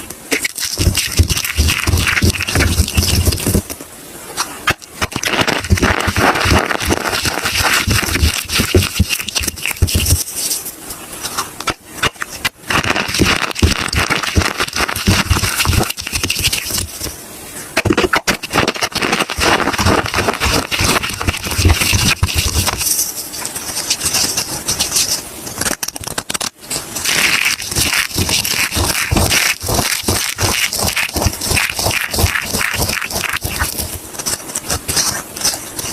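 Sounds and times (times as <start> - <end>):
soap crunching and crackling: 0.3 - 3.7, 4.6 - 10.7, 11.4 - 16.9, 17.8 - 35.9.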